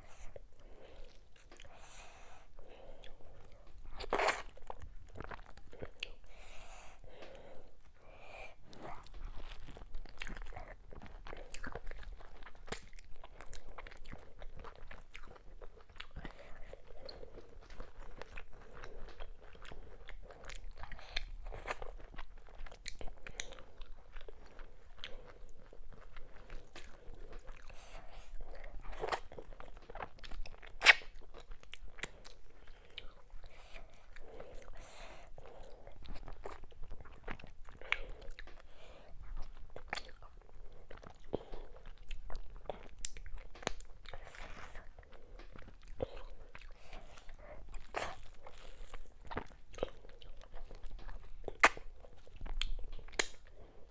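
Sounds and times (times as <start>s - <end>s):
chewing and wet mouth sounds: 0.0s - 53.9s.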